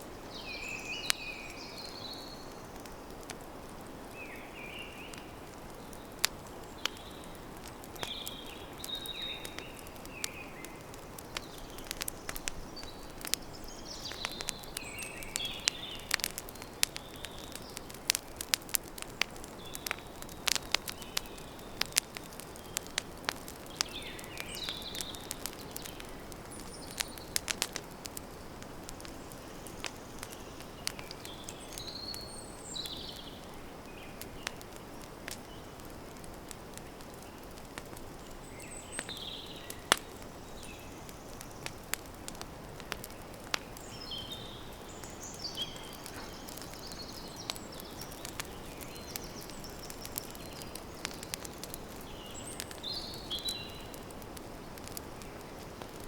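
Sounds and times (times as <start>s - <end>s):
campfire crackling and popping: 0.0s - 56.0s
birds chirping: 4.1s - 56.0s.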